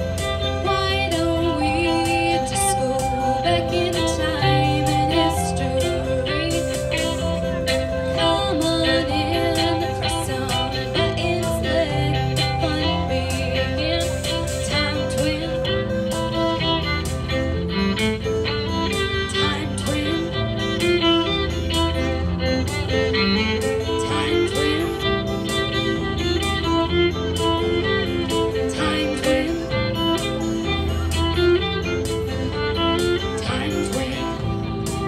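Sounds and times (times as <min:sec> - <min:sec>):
electric guitar: 0:00.0 - 0:35.0
fiddle: 0:00.0 - 0:35.0.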